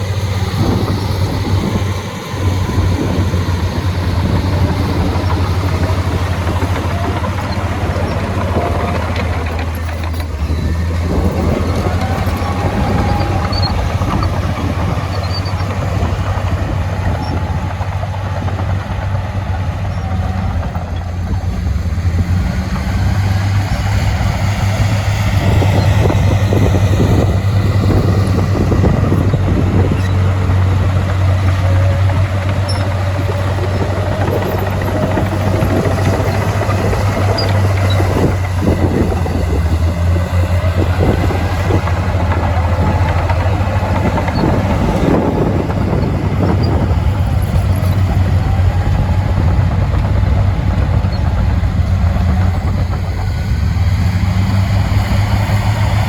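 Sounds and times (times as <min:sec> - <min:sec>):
heavy diesel machinery drone: 0:00.0 - 0:56.0.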